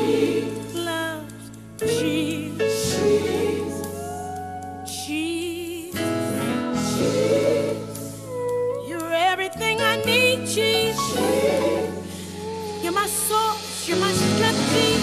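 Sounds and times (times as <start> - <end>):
gospel singing with accompaniment: 0.0 - 15.0.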